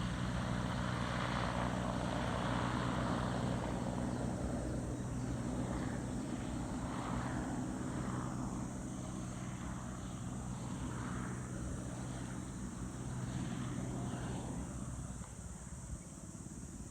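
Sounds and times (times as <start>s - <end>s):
helicopter droning: 0.0s - 16.9s.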